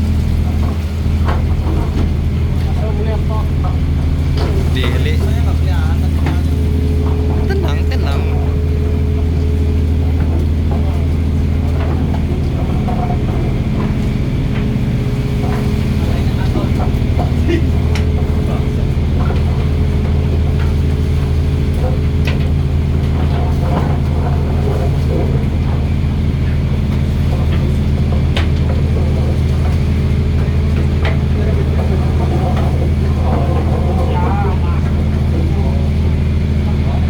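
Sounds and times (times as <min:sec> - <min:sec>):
boat engine droning: 0:00.0 - 0:37.0.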